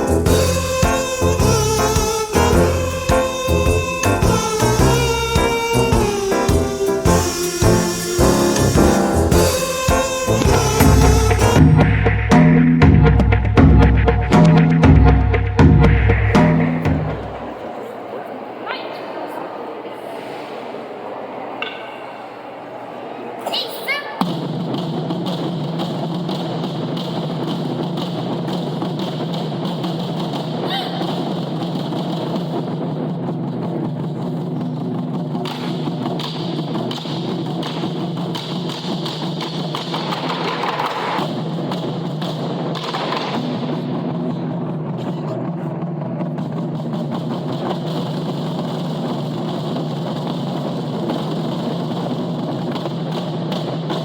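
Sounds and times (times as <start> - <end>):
fast drumming: 0.0 - 17.5, 24.2 - 54.0.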